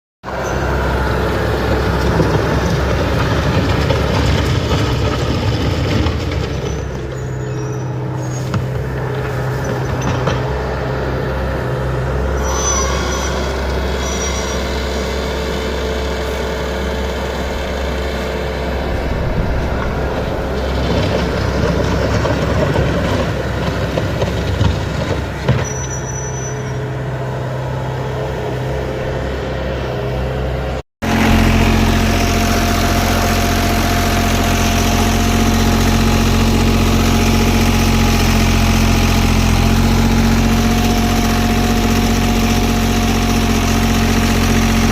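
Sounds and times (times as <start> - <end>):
diesel paving machinery running: 0.2 - 44.9
engine with steady whine: 0.2 - 44.9.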